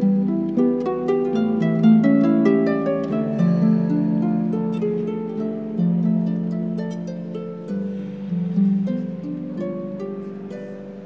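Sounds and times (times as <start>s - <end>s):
harp plucked notes: 0.0s - 11.0s.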